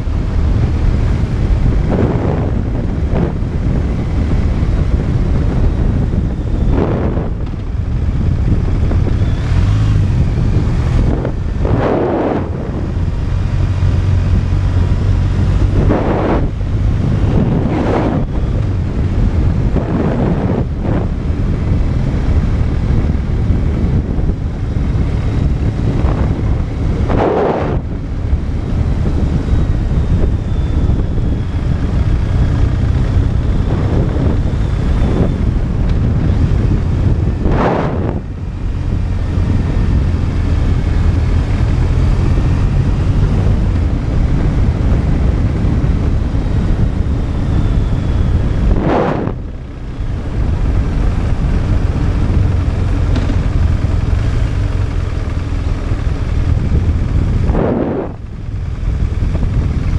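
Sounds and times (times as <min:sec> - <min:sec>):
motorcycle engine drone: 0:00.0 - 0:59.9
wind rushing over microphone: 0:00.0 - 0:59.9.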